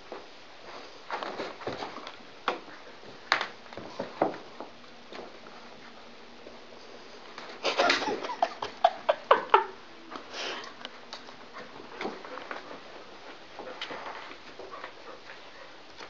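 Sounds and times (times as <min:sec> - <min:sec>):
dogs scuffling: 0:00.1 - 0:08.2, 0:11.1 - 0:16.0.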